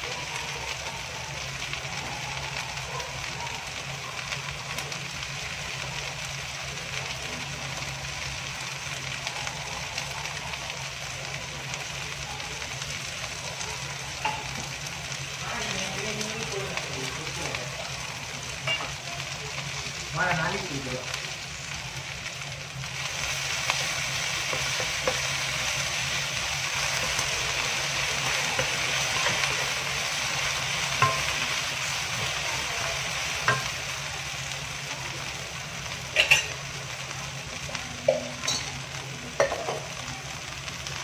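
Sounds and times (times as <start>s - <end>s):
okra sizzling in a wok: 0.0s - 41.0s.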